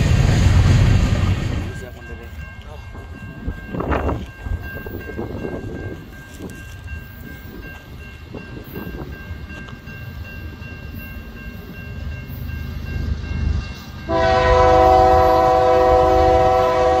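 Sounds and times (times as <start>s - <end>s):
distant freight train rumble: 0.0s - 17.0s.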